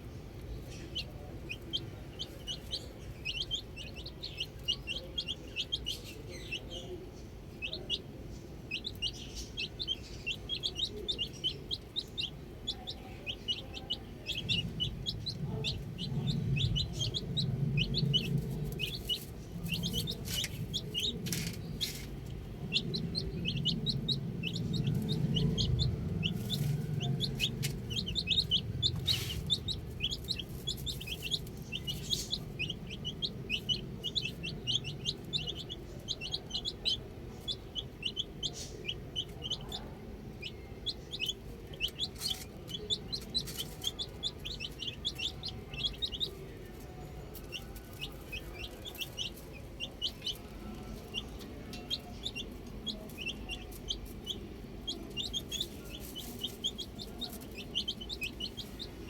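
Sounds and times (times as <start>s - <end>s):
baby chicks peeping: 0.0s - 59.0s
low rumble: 7.4s - 59.0s.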